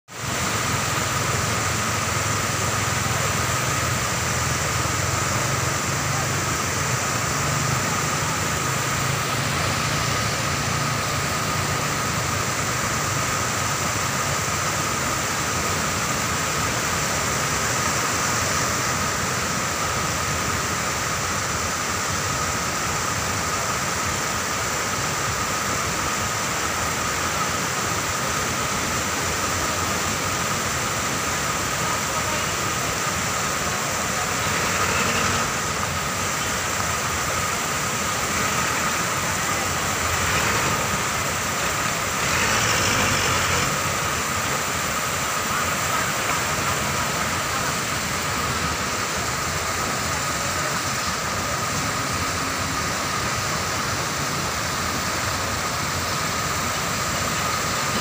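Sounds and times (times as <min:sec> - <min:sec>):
floodwater rushing: 0:00.1 - 0:58.0.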